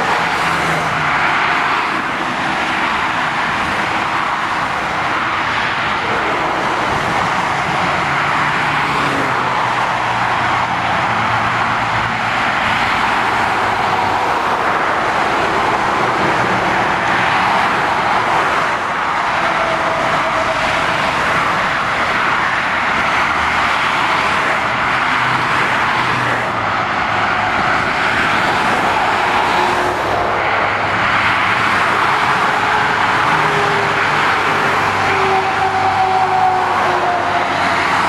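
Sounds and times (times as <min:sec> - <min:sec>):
motorway traffic roar: 0:00.0 - 0:38.0.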